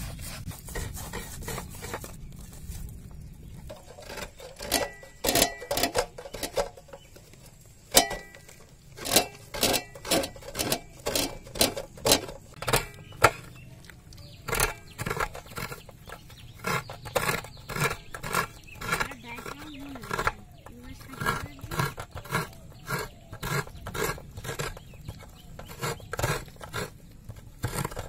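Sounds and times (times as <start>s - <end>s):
coconut scraper rasping: 0.0s - 2.7s, 3.6s - 28.0s.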